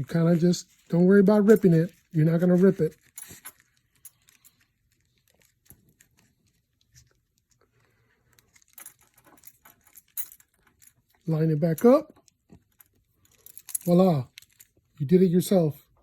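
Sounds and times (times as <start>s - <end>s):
light clicks and crinkling: 0.0s - 15.0s.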